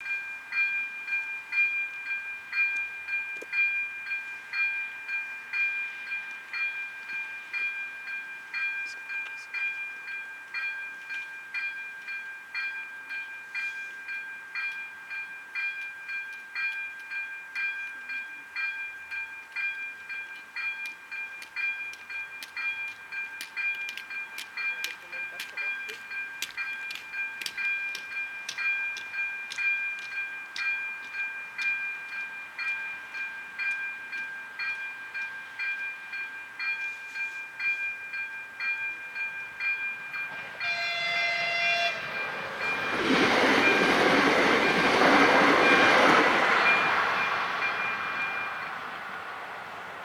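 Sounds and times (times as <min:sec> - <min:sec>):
level crossing bell ringing: 0:00.0 - 0:48.7.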